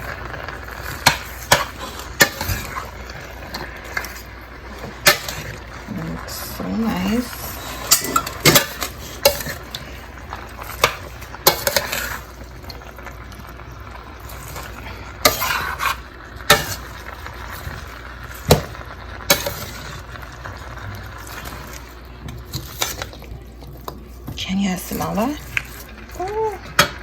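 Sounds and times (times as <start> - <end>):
chicken sizzling in oil: 0.0 - 27.0
utensil scraping a wok: 0.0 - 27.0.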